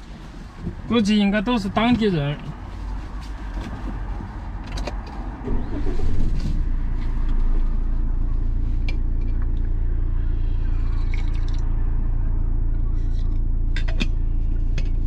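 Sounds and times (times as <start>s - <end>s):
road and engine rumble in vehicle: 0.0s - 15.0s.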